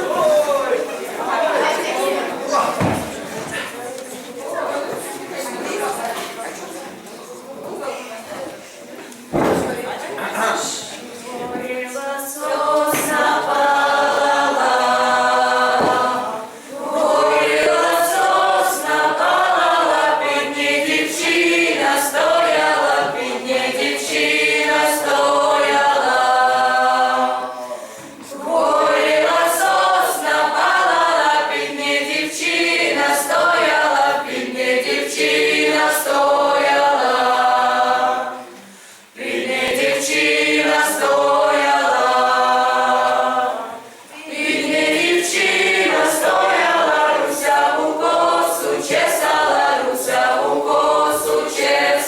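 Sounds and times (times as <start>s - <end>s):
group singing unaccompanied: 0.0s - 3.9s, 9.3s - 52.0s.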